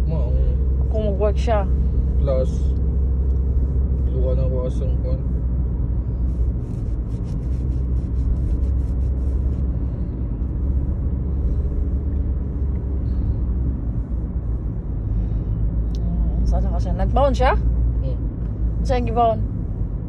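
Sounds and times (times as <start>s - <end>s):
road and engine rumble in car: 0.0s - 20.0s.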